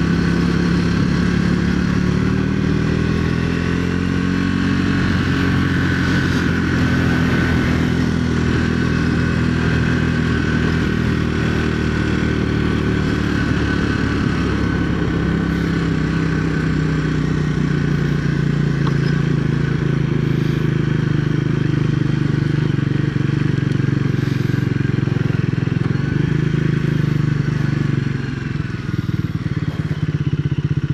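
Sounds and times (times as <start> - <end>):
single-cylinder engine running: 0.0 - 30.9.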